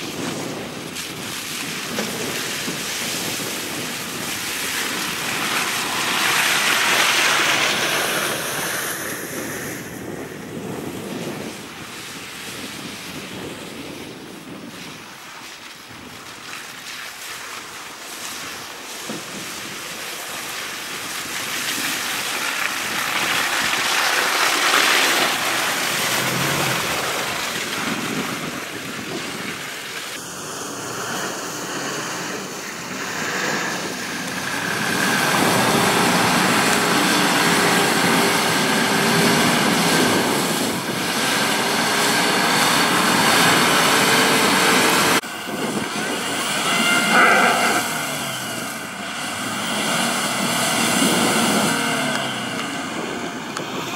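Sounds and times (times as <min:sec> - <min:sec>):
off-road vehicle engines running: 0:00.0 - 0:53.9
wind noise on microphone: 0:00.0 - 0:53.9.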